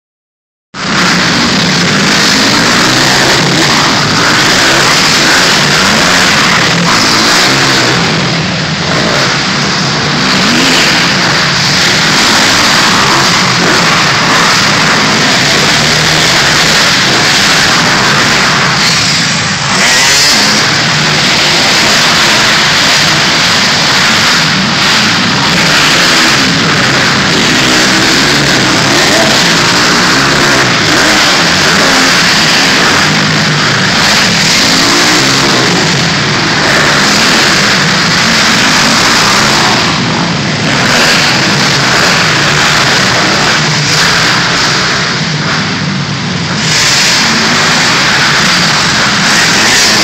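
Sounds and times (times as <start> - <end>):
dirt bike engines revving: 0.8 - 50.0.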